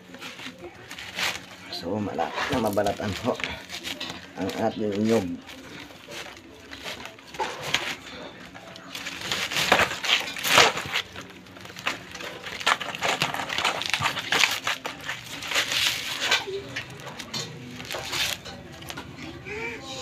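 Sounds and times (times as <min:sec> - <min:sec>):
coconut husk ripping: 0:00.0 - 0:19.4.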